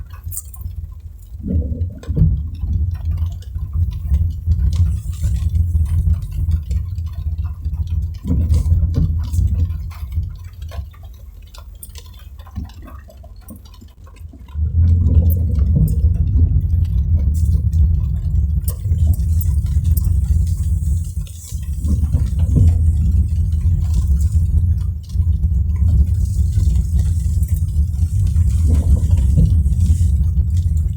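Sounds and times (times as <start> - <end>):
raindrops tapping: 0.0 - 30.9.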